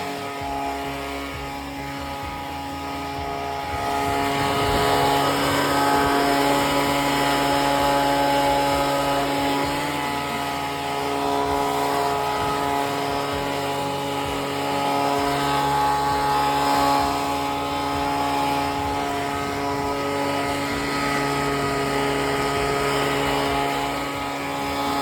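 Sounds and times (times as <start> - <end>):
small gasoline engine running: 0.0 - 25.0.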